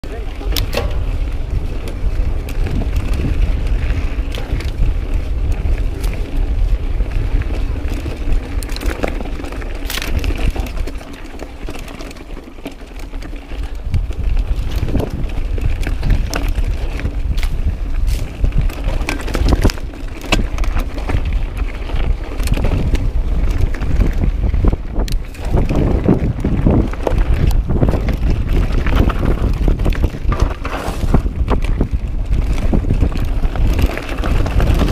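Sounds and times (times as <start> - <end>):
tyres crunching over stones: 0.0 - 34.9
wind rumbling on microphone: 0.0 - 34.9
bike clattering over bumps: 0.1 - 34.9.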